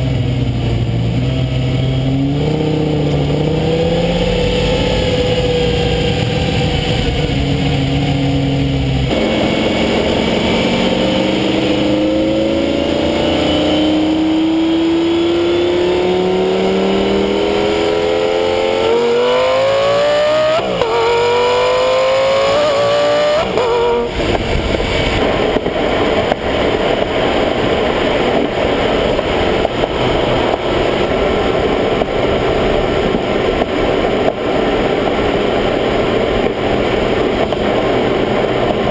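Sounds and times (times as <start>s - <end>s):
car exhaust roaring: 0.0s - 38.9s.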